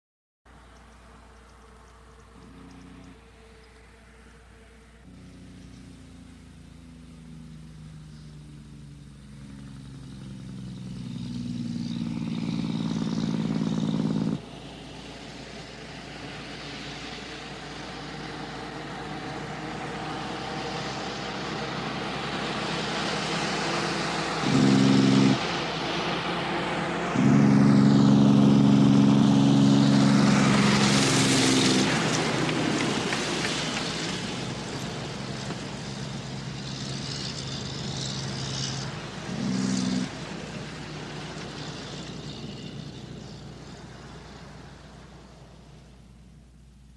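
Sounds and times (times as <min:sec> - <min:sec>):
heavy truck passing: 0:00.5 - 0:46.6.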